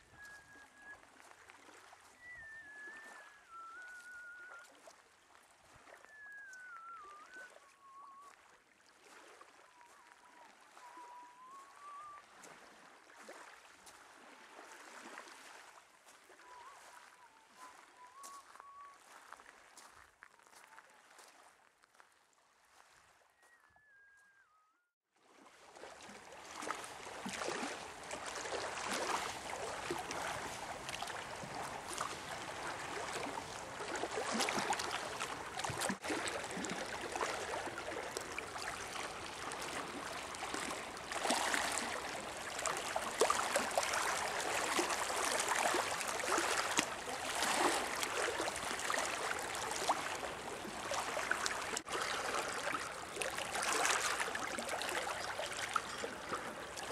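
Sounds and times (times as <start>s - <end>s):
water gurgling and sloshing: 0.0s - 19.9s, 25.2s - 56.9s
water splashes and bubbles: 0.0s - 22.0s, 25.2s - 56.9s.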